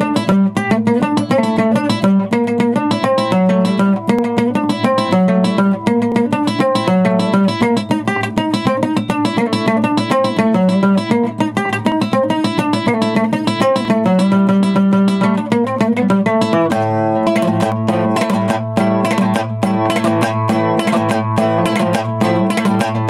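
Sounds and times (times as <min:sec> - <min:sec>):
plucked string instrument solo: 0:00.0 - 0:23.0.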